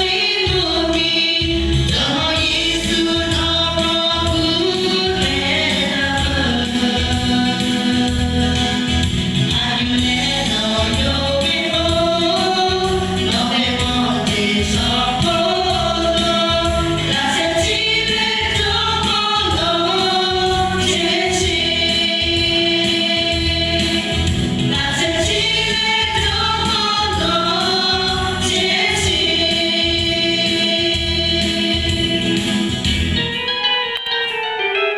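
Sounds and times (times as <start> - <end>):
choir singing: 0.0 - 32.6
instrumental accompaniment with beat: 0.0 - 34.9.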